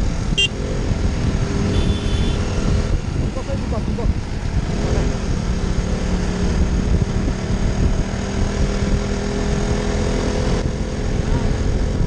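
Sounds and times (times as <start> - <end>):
motorcycle engine cruising: 0.0 - 12.0
wind buffeting microphone: 0.0 - 12.0.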